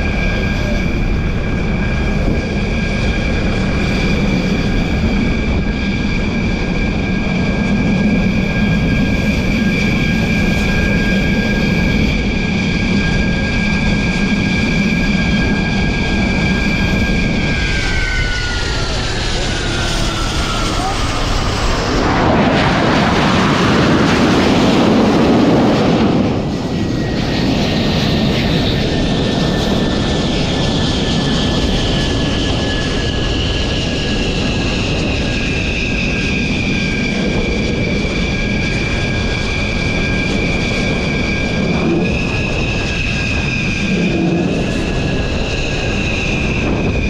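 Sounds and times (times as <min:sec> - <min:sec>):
jet engines rushing and whining: 0:00.0 - 0:47.0.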